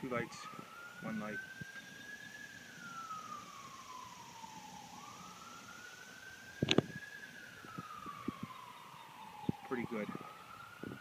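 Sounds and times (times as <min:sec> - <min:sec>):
emergency vehicle siren wailing: 0:00.0 - 0:11.0.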